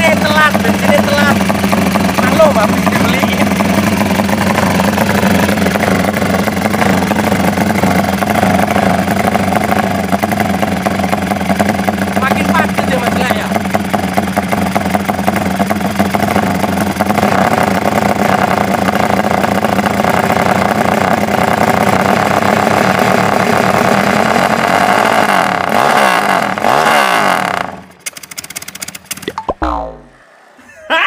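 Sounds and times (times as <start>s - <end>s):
motorcycle engine running: 0.0s - 30.1s
engine revving: 0.0s - 30.4s.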